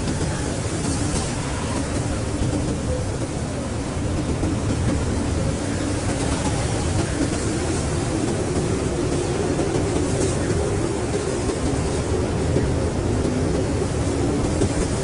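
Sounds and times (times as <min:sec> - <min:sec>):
blizzard wind blowing: 0:00.0 - 0:15.0.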